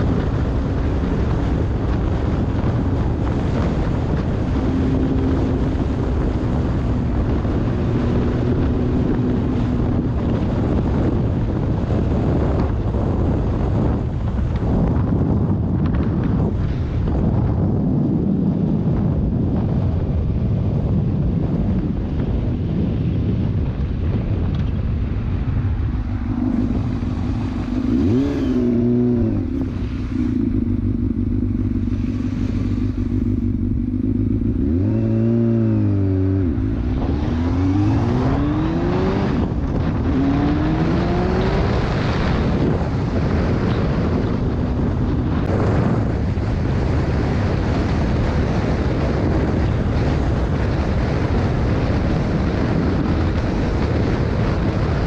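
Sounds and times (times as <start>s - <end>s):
motorcycle engine: 0.0s - 55.0s
wind noise on microphone: 0.0s - 55.0s.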